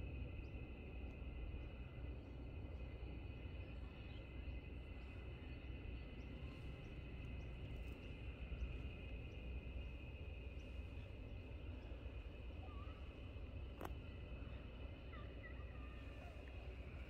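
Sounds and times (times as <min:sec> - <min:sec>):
faint high-pitched hum: 0:00.0 - 0:17.0.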